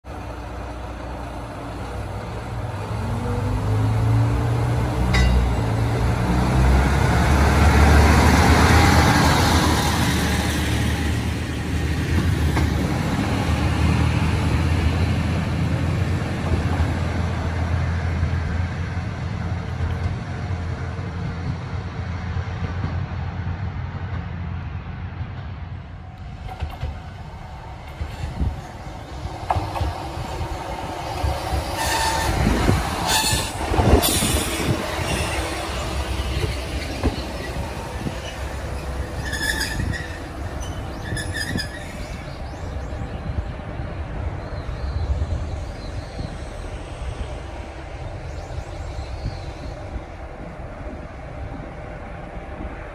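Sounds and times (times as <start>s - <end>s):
diesel railcar engine revving: 0.1s - 52.9s.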